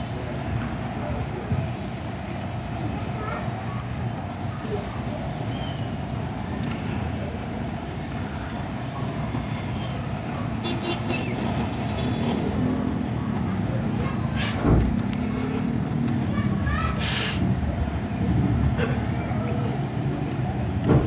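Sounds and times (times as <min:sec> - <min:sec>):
idling traffic rumble: 0:00.0 - 0:21.0.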